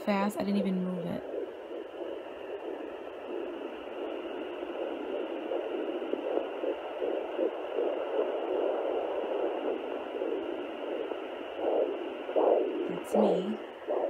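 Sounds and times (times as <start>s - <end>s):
fetal heartbeat whooshing pulses: 0.0s - 14.0s
steady hiss: 1.2s - 14.0s.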